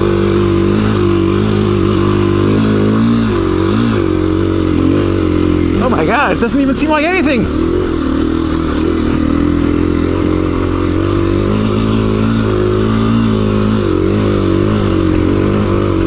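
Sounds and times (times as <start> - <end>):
motorcycle engine under load: 0.0 - 16.0.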